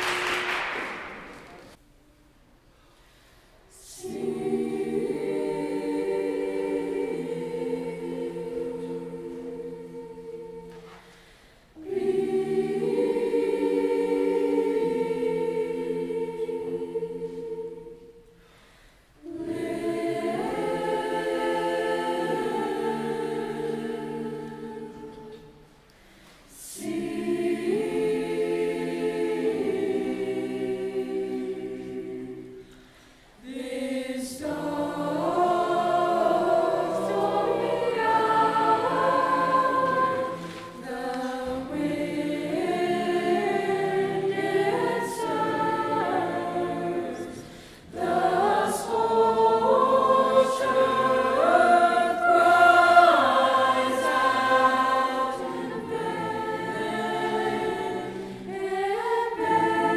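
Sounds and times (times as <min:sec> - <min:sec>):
mixed choir singing unaccompanied: 0:03.7 - 0:59.9.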